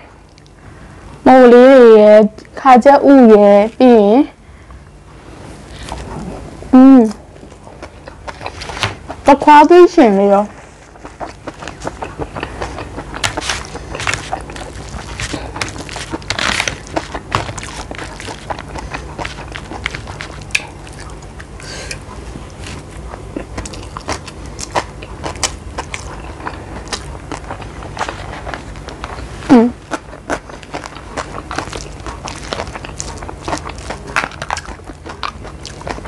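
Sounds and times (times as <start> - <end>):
person chewing and crunching: 7.0 - 36.0.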